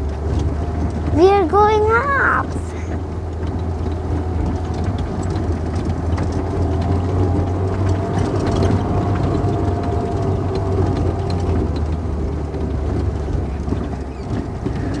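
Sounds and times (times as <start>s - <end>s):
car engine working hard: 0.0s - 15.0s
light rattles and ticks: 0.0s - 15.0s.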